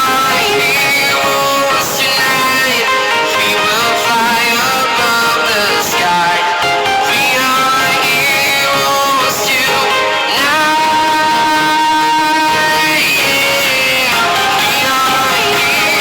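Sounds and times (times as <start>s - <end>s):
pop song with guitar and vocals: 0.0s - 16.0s.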